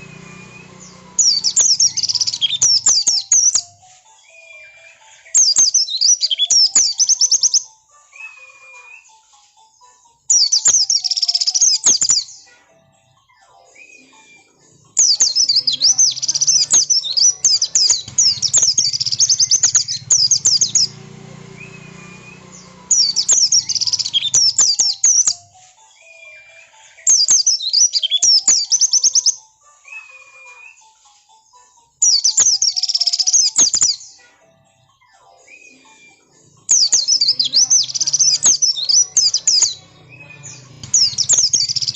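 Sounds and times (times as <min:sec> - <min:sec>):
bird high-pitched chirps: 0:00.0 - 0:09.3, 0:10.3 - 0:12.6, 0:13.3 - 0:31.0, 0:32.0 - 0:34.3, 0:35.0 - 0:41.9.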